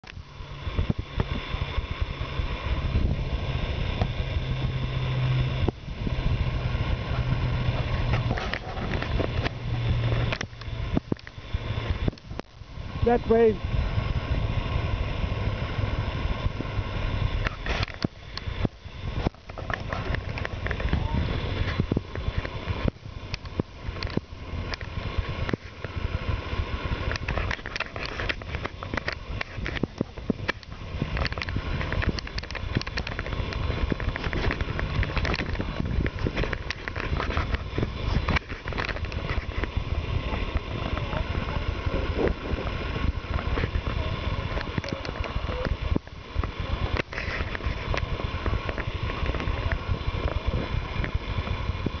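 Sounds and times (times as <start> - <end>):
low rumble: 0.0 - 52.0.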